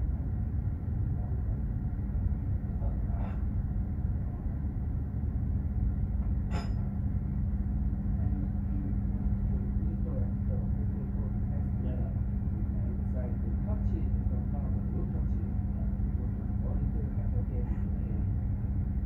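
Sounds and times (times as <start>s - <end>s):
ship engine rumble: 0.0s - 19.0s.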